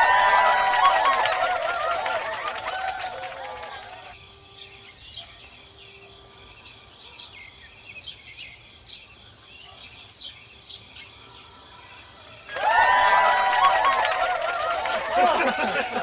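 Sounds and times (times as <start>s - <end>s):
birds chirping: 1.8s - 16.0s.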